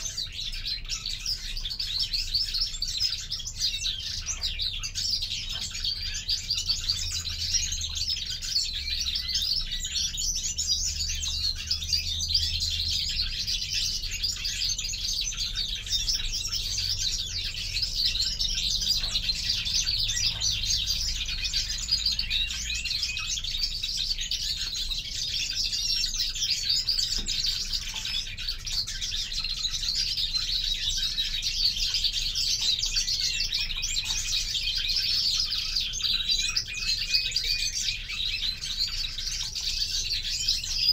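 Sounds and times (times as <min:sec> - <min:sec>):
finches chirping and twittering: 0:00.0 - 0:40.9.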